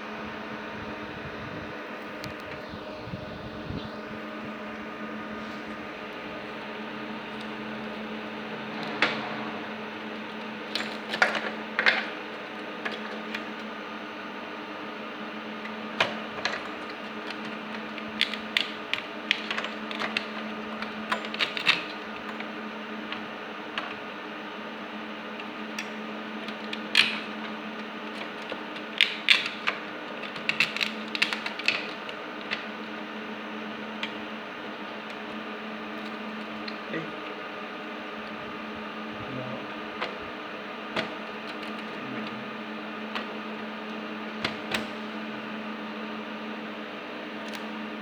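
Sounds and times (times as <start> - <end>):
electrical hum: 0.0 - 48.0.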